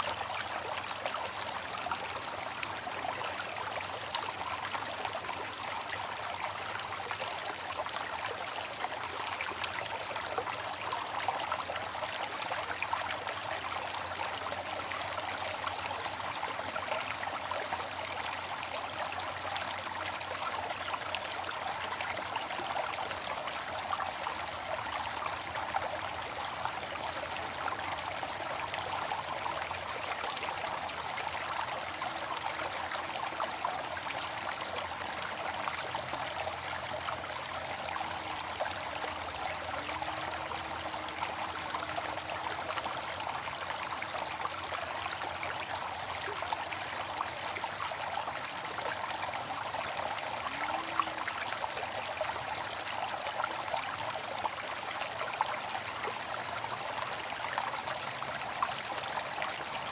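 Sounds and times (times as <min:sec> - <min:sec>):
water fountain splashing: 0:00.0 - 0:59.9.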